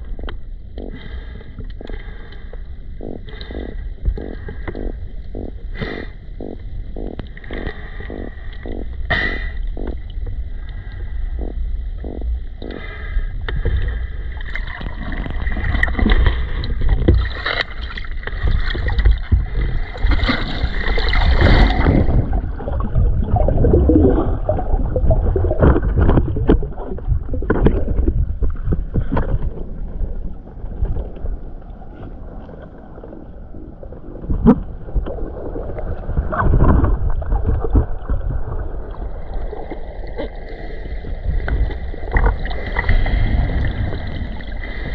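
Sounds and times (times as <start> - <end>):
water churning and bubbling: 0.0 - 44.9.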